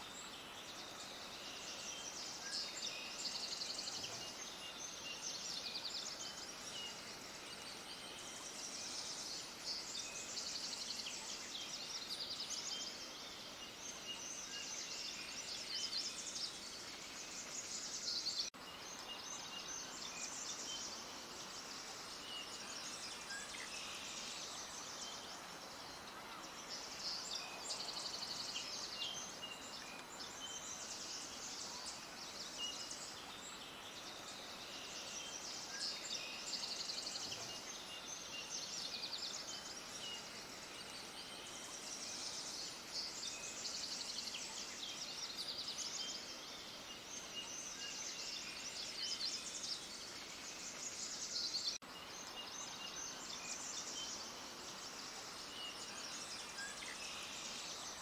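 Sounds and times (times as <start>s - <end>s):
chorus of small birds chirping: 0.0s - 58.0s
faint background hiss: 0.0s - 58.0s.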